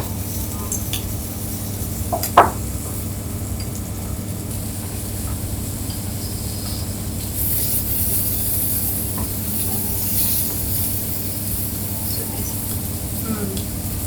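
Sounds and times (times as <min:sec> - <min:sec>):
food sizzling on a grill: 0:00.1 - 0:14.0.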